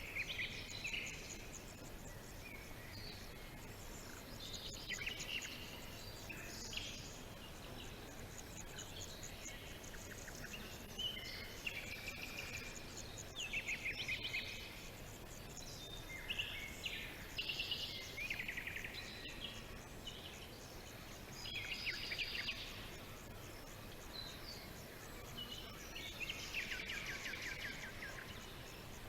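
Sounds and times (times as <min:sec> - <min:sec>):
faint steady hiss: 0:00.0 - 0:29.0
songbirds chirping and singing: 0:00.0 - 0:29.0.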